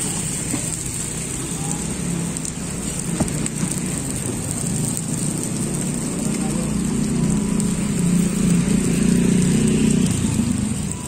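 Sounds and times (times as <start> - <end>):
egg sizzling in mould: 0.0 - 11.0.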